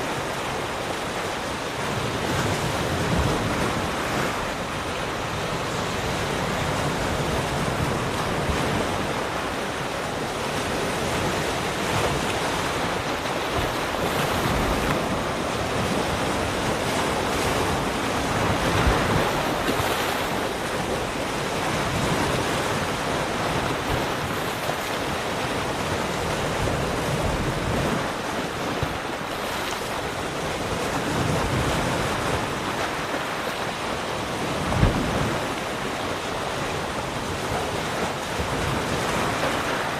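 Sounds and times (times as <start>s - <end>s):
ocean waves breaking on shore: 0.0s - 39.9s
wind noise on microphone: 0.0s - 39.9s.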